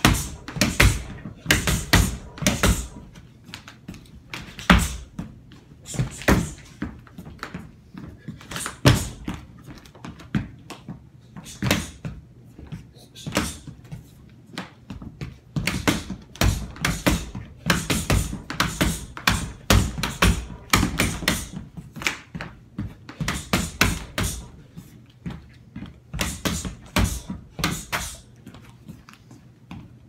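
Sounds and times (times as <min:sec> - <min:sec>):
footwork thuds on floor: 0:00.0 - 0:30.0.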